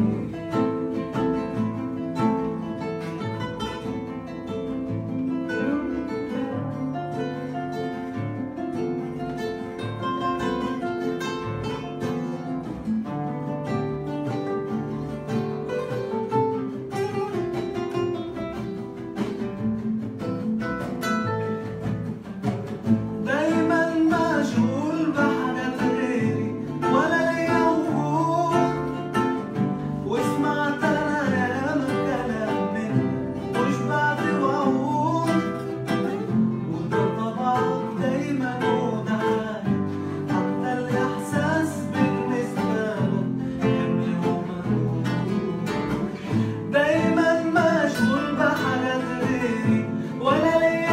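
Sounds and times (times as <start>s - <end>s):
man singing: 0.0s - 18.8s, 22.8s - 50.9s
acoustic guitars playing: 0.0s - 50.9s.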